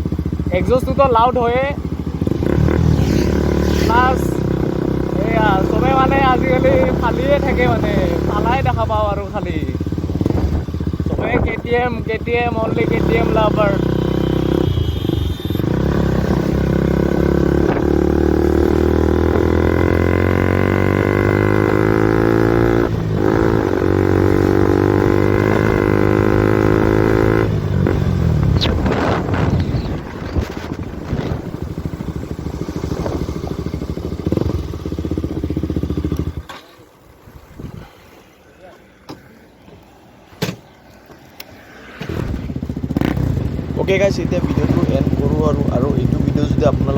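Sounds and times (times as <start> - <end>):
motorcycle engine revving: 0.0 - 37.2, 42.0 - 46.9.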